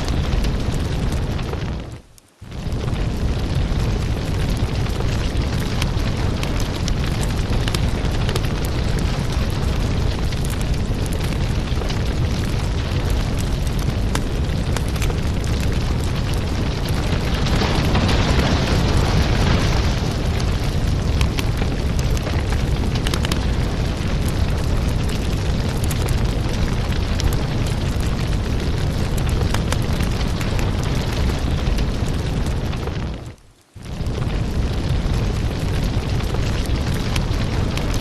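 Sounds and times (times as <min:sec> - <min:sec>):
burning wood crackling and popping: 0:00.0 - 0:38.0
fire flame rushing: 0:00.0 - 0:38.0.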